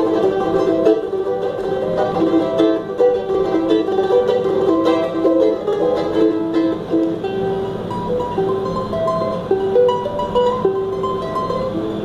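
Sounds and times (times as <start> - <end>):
plucked charango melody: 0.0 - 12.0.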